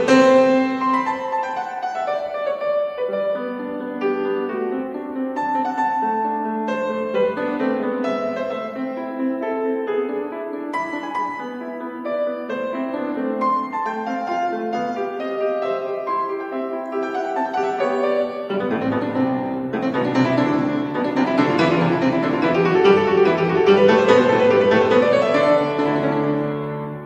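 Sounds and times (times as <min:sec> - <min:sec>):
solo classical piano: 0:00.0 - 0:27.0.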